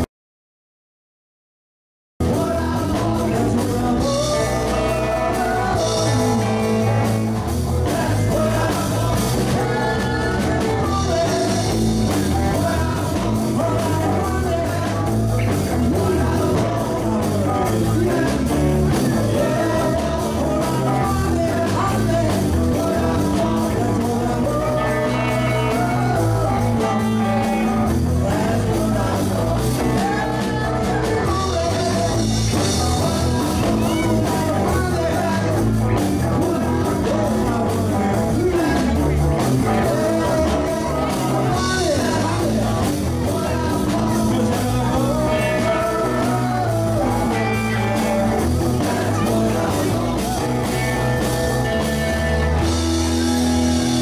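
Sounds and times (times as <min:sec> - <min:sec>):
person singing: 0:02.2 - 0:54.0
rock and roll band playing: 0:02.2 - 0:54.0.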